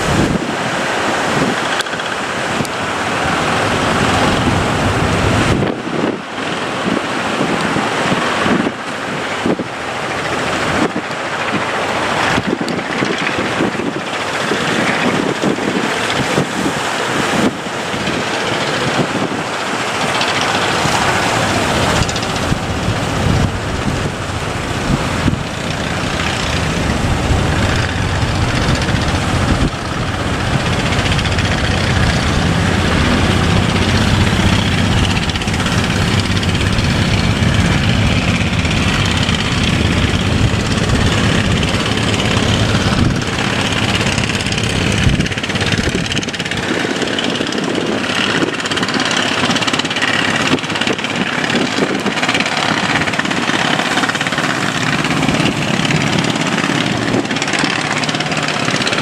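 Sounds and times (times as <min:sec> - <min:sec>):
boat engine running: 0:00.0 - 0:59.0
surf: 0:00.0 - 0:59.0
wind: 0:00.0 - 0:59.0.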